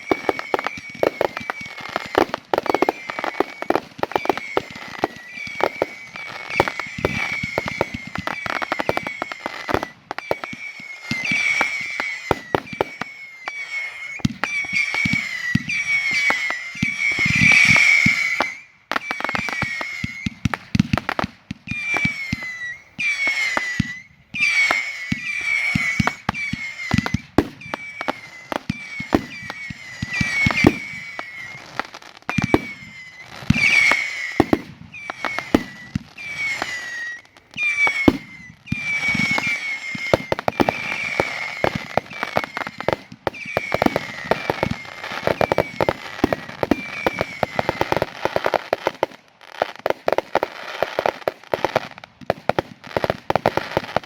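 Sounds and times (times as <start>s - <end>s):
fireworks bangs and crackling: 0.0s - 54.0s
fireworks whistles dropping in pitch: 0.0s - 54.0s.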